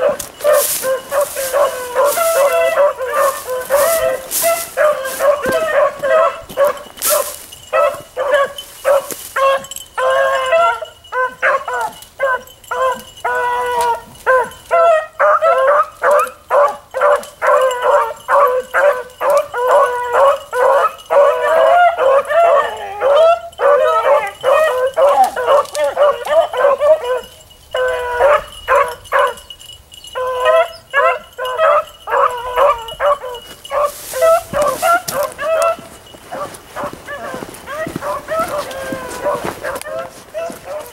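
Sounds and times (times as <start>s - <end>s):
beagles baying: 0.0s - 40.9s.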